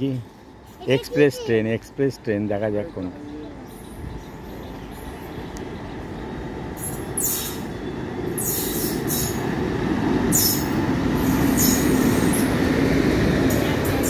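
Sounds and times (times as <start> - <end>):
high wheel-on-rail noise: 0.0 - 14.0
train rumble: 0.0 - 14.0.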